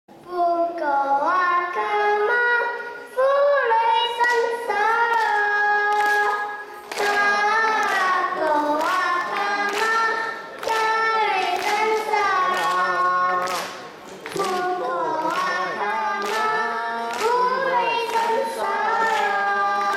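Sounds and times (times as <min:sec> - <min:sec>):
girl singing into microphone: 0:00.1 - 0:19.9.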